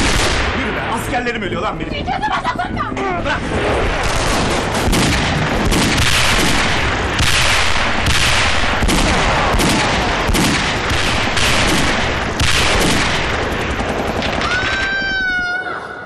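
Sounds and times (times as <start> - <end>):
explosions: 0.0 - 1.9, 3.0 - 14.6
continuous gunfire: 0.0 - 2.1, 3.1 - 15.4.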